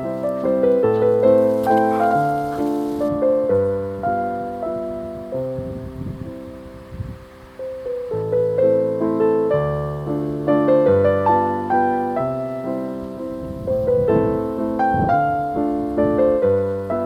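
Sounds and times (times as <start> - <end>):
soft solo piano: 0.0 - 17.0.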